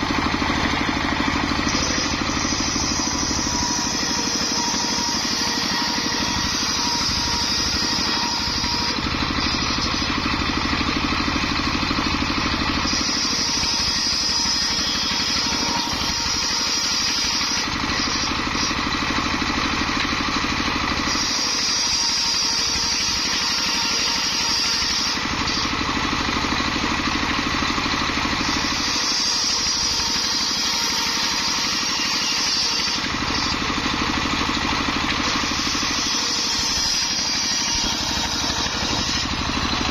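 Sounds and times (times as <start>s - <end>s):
circular sawmill cutting wood: 0.0s - 39.9s.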